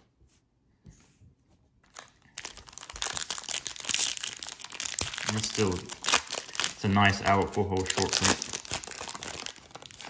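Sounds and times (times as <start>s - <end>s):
foil wrapper tearing and crinkling: 1.9s - 10.0s.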